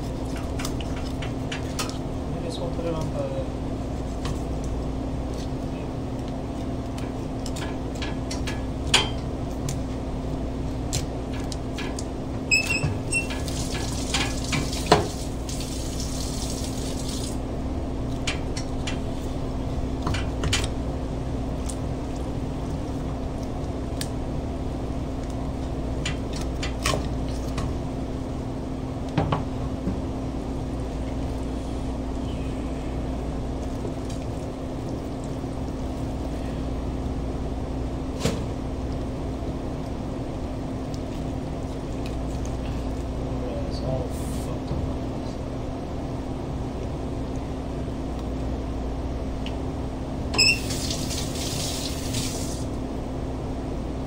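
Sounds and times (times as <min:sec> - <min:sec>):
kitchen hum: 0:00.0 - 0:54.0.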